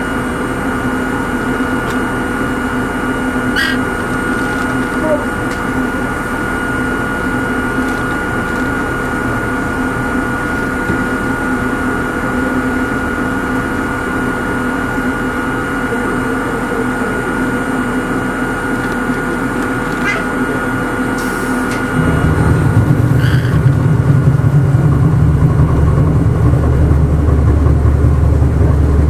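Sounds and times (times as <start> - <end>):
electric railcar humming: 0.0 - 29.0.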